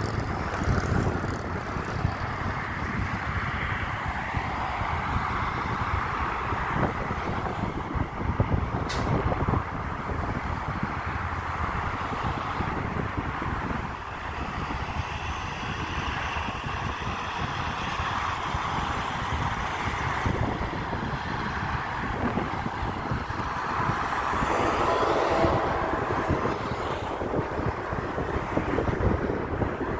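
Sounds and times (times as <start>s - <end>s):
freeway traffic noise: 0.0s - 29.9s
wind buffeting microphone: 0.0s - 29.9s.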